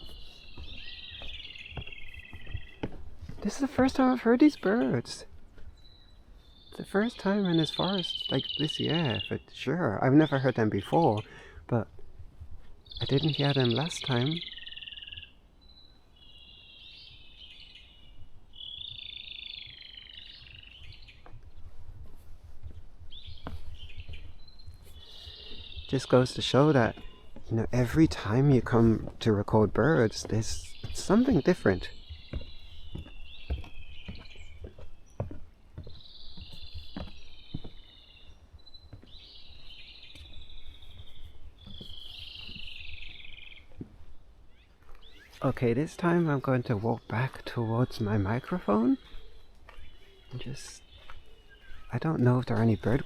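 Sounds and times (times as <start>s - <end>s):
songbird trilling: 0.0s - 11.9s, 12.8s - 21.6s, 23.1s - 53.0s.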